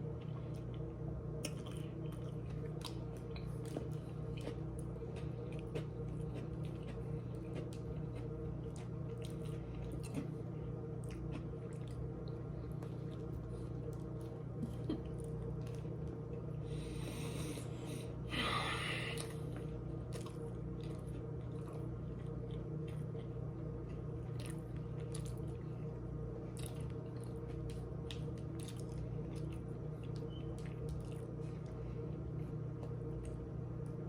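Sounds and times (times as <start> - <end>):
steady background hum: 0.0 - 34.0
person chewing: 0.5 - 25.6, 26.5 - 31.3.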